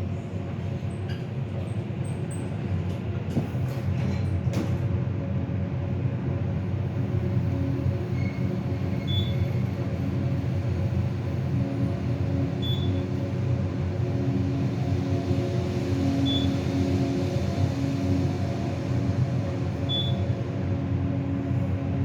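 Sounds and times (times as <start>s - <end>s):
elevator hum and rumble: 0.0s - 22.0s.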